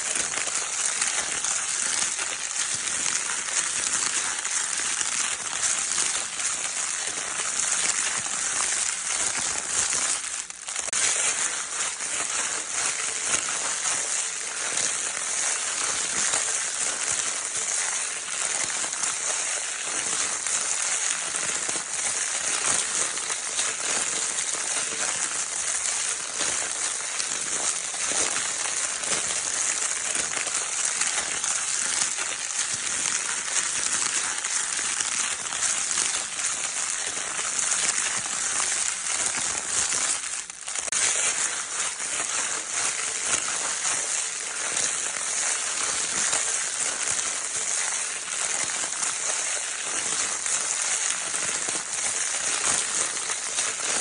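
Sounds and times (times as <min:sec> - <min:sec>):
crinkle paper toy scrunched: 0:00.0 - 0:54.0.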